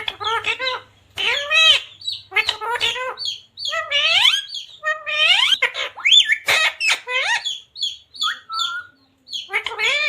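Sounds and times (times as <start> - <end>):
parrot calling and chirping: 0.0 - 10.0.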